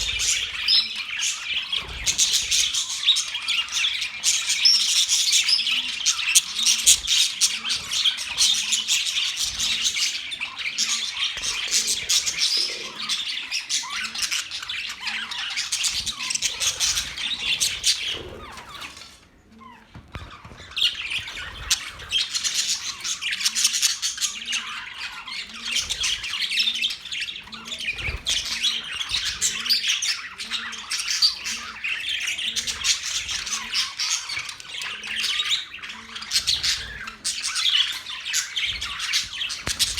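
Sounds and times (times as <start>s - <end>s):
budgerigars chattering: 0.0s - 19.0s, 20.3s - 39.9s.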